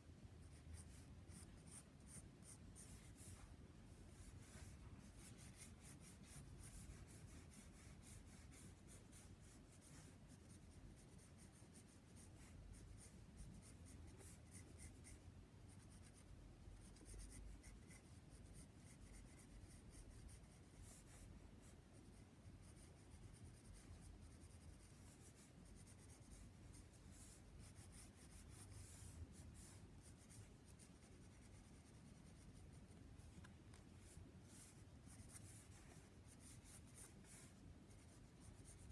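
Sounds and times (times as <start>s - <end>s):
pencil scratching on paper: 0.4s - 38.9s.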